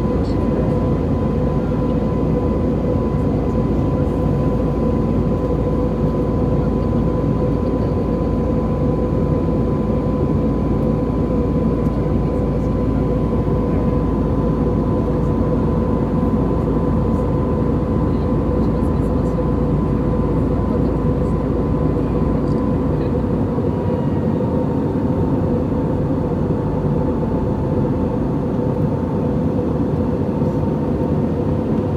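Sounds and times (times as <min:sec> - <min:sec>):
airliner cabin engine rumble: 0:00.0 - 0:31.9.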